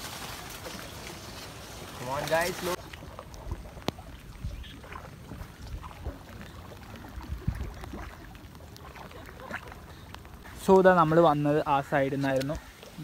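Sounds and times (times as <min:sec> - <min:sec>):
rain drips and taps: 0:00.0 - 0:13.0.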